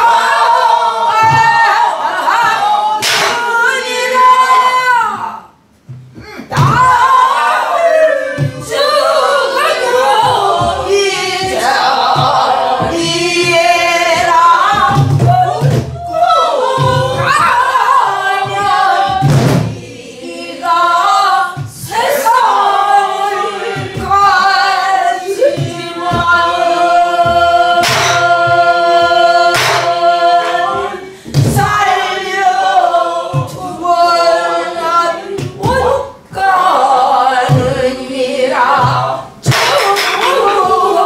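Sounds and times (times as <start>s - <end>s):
barrel drum strokes: 0.0s - 41.0s
group singing folk song: 0.0s - 41.0s.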